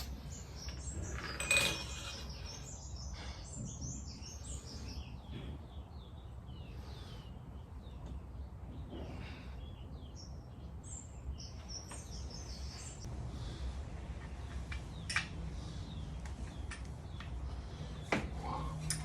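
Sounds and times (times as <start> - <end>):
birds chirping and calling: 0.0 - 19.0.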